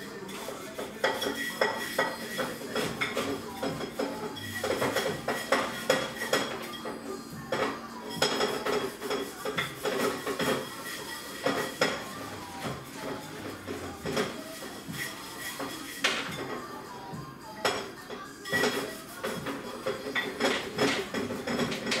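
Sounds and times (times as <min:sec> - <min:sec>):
crockery and cutlery clinking: 0:00.0 - 0:22.0.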